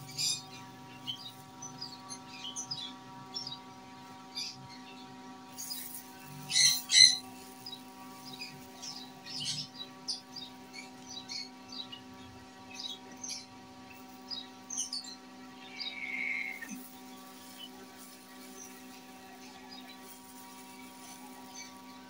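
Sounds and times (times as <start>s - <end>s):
electrical hum: 0.0s - 22.0s
small birds chirping: 0.0s - 22.0s.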